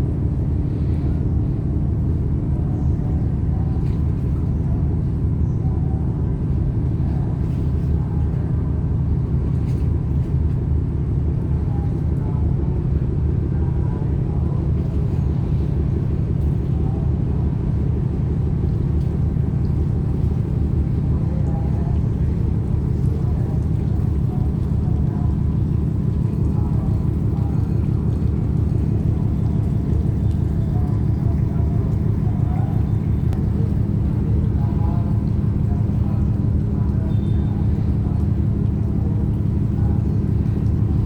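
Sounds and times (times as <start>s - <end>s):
ship engines rumbling: 0.0s - 41.0s.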